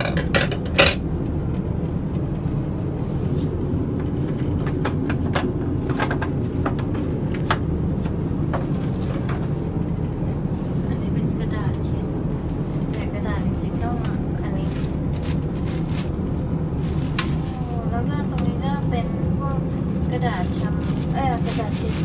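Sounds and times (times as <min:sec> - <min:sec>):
airliner cabin roar: 0:00.0 - 0:22.0.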